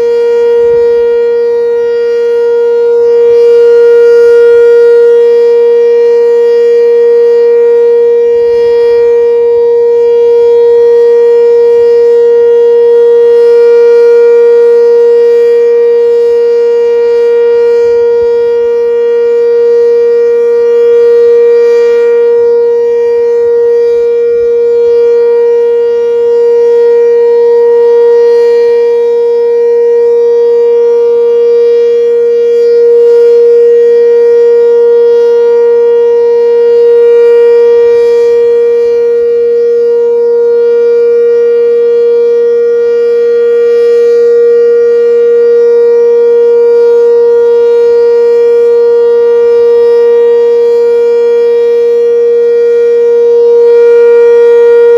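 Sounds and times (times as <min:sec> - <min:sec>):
warning siren steady tone: 0:00.0 - 0:54.9.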